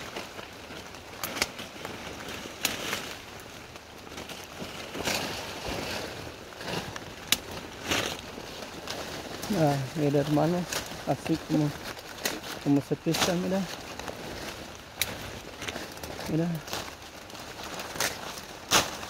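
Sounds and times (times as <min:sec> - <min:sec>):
leaves rustling: 0:00.0 - 0:19.0
stems snapping: 0:00.0 - 0:19.0.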